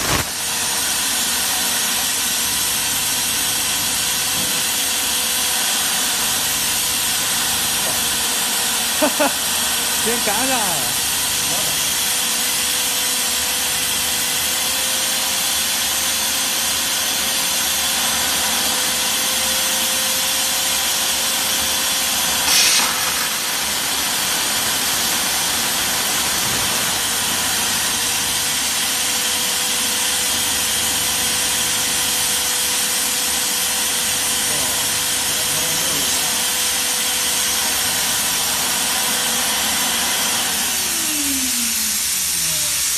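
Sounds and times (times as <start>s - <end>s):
steam hissing: 0.0s - 42.9s.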